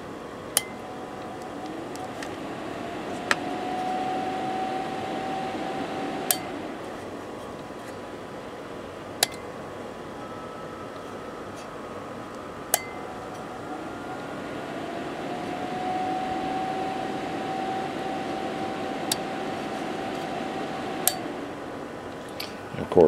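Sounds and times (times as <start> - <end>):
faint steady tone: 0.0 - 23.0.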